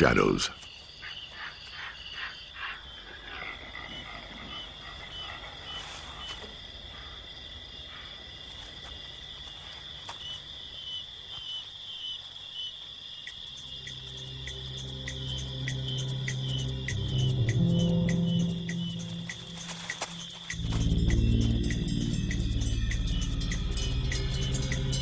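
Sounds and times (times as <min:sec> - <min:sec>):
insect trill: 0:00.0 - 0:25.0.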